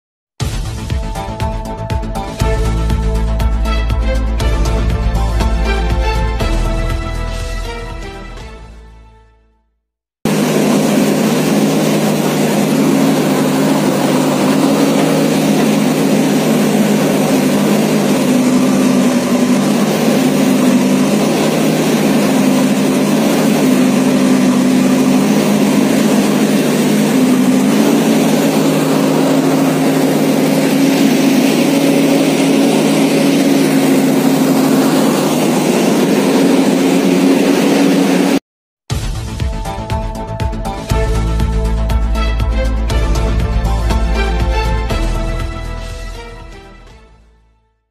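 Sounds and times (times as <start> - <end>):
diesel engine running under load: 0.5 - 7.5, 10.3 - 38.4, 39.3 - 47.0.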